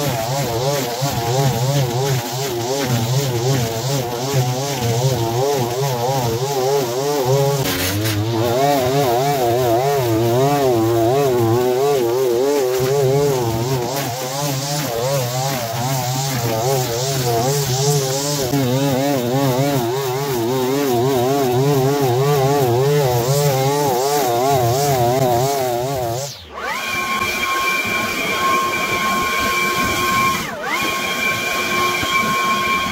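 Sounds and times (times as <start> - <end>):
string trimmer engine cutting grass: 0.0 - 32.9.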